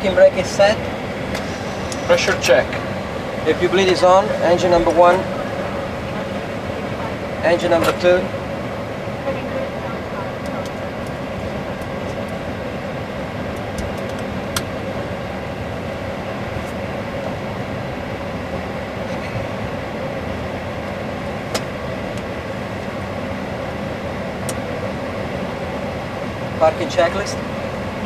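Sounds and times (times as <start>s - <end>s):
cockpit hum and air rush: 0.0s - 28.0s.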